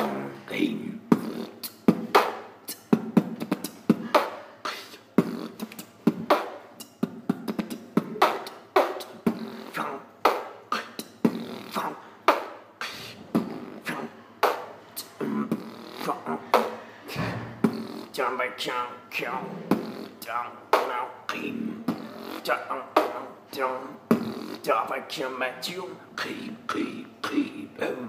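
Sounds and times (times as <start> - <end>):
man beatboxing: 0.0 - 28.0.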